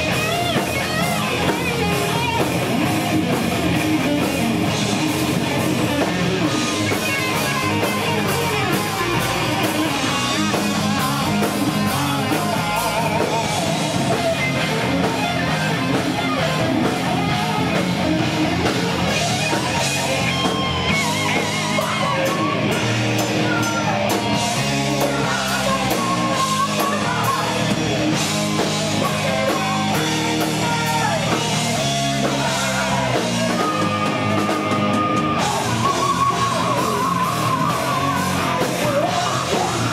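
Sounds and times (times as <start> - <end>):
distorted electric guitar: 0.0 - 39.9
drum kit: 0.0 - 39.9.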